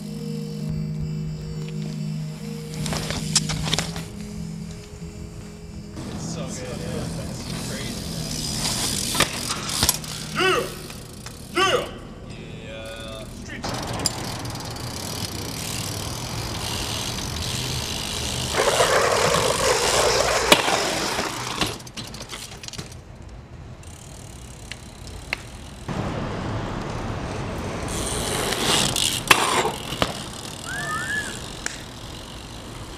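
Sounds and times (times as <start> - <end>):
bike tyres rolling on asphalt: 1.4 - 11.8, 12.6 - 32.9.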